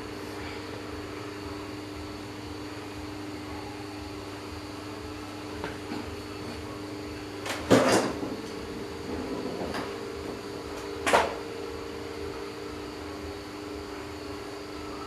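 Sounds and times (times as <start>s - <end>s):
electric fan motor humming: 0.0s - 15.0s.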